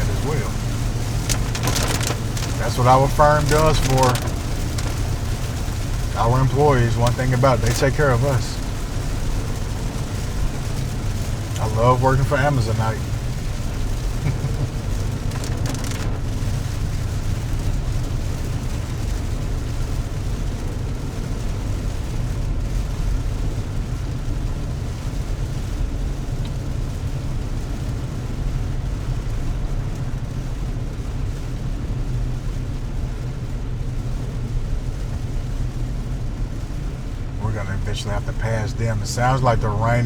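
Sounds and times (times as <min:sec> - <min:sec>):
car engine and tyres rumbling: 0:00.0 - 0:40.0
rain on car: 0:00.0 - 0:40.0.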